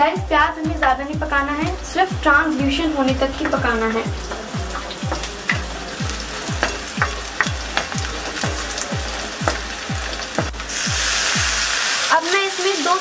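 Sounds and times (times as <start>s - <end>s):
music beat with deep kick: 0.0s - 11.9s
onion frying in oil: 0.0s - 13.0s.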